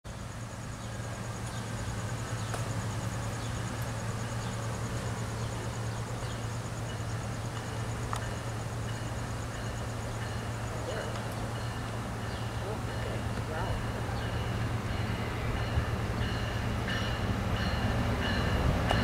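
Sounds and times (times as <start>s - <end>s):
diesel locomotive engine hum: 0.1s - 19.0s.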